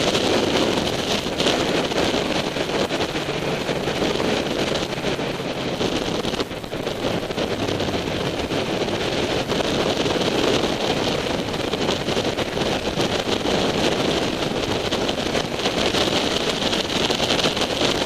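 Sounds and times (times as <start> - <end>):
motorcycle engine drone: 0.0 - 18.0
wind rushing over microphone: 0.0 - 18.0.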